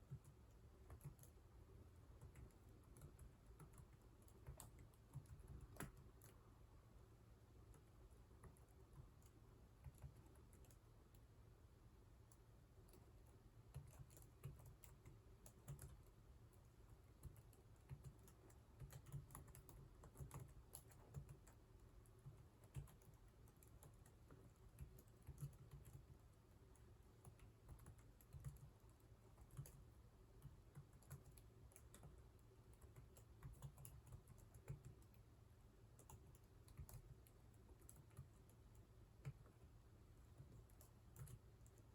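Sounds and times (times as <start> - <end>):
computer keyboard typing: 0.0 - 6.5, 7.6 - 11.3, 12.3 - 35.3, 35.9 - 41.9.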